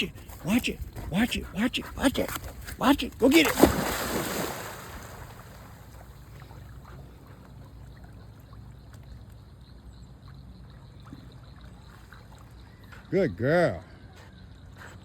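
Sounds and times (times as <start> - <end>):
faint water splashing: 0.0 - 13.2.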